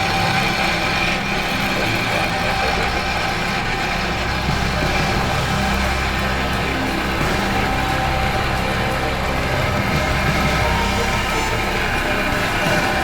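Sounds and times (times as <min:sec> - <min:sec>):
road roller engine running: 0:00.0 - 0:13.0.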